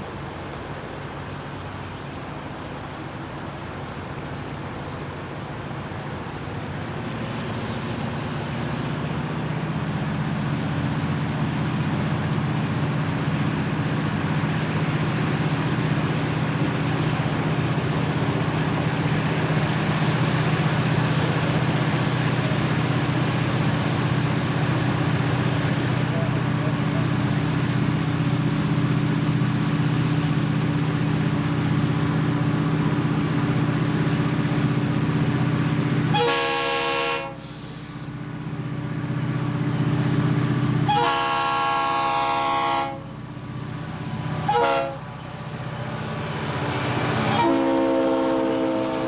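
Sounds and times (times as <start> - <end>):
diesel locomotive engines droning: 0.0 - 49.0.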